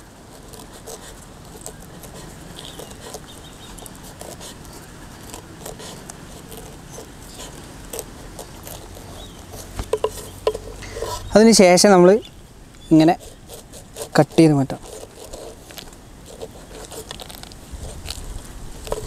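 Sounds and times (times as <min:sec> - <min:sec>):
knife crunching through pineapple rind: 0:00.0 - 0:11.3, 0:13.0 - 0:19.0.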